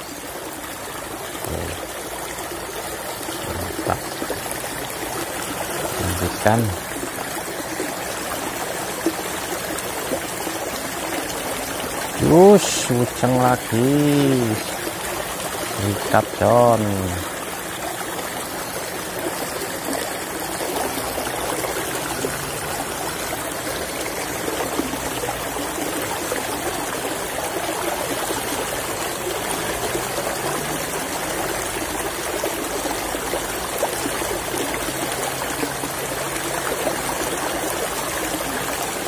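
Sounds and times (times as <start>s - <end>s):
water flowing in channel: 0.0s - 39.0s.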